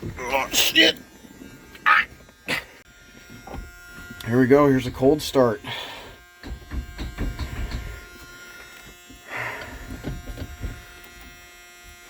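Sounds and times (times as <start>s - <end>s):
seat warning buzzer: 0.0s - 12.0s.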